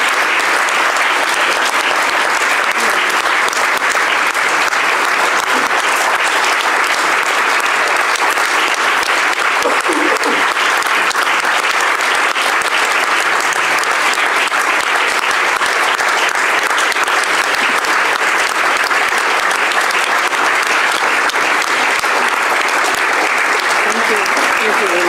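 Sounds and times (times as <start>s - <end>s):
large audience applauding: 0.0s - 25.0s.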